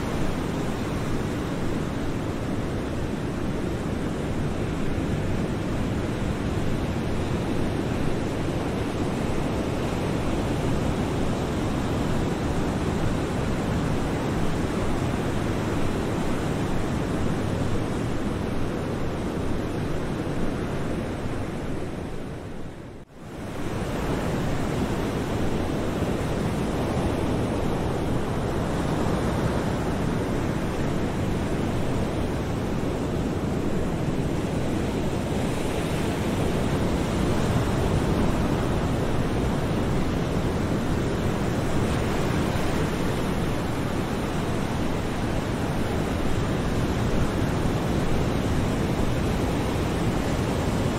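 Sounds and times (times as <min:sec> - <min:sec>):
ocean surf washing onto shore: 0:00.0 - 0:50.9.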